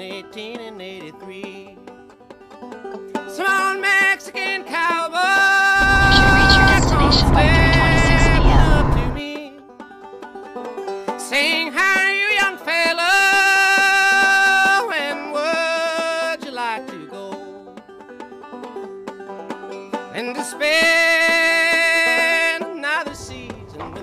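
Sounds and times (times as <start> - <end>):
country music with plucked strings: 0.0 - 5.5, 8.8 - 24.0.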